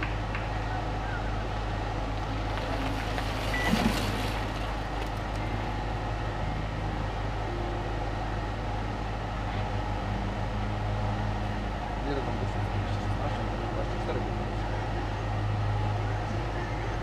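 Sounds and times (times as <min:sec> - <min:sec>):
outdoor background noise: 0:00.0 - 0:17.0
steady low hum: 0:00.0 - 0:17.0.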